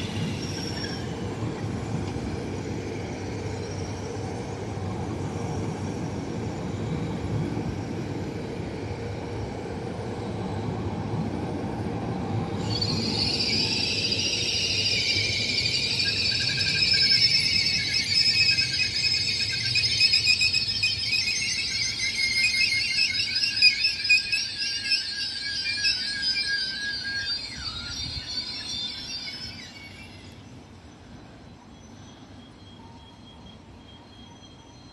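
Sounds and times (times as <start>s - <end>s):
train brakes squealing: 0.0s - 34.9s.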